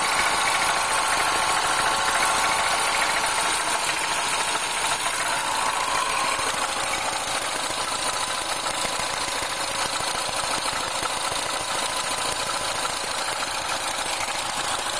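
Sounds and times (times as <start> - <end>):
car engine idling with rattle: 0.0 - 14.9.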